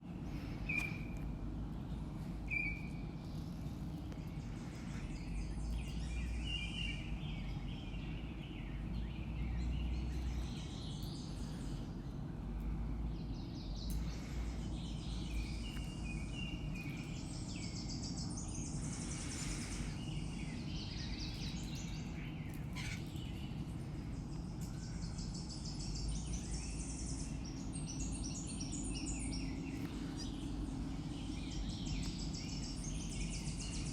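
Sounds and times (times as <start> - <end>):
low background rumble: 0.0 - 33.9
small birds chirping: 0.0 - 33.9.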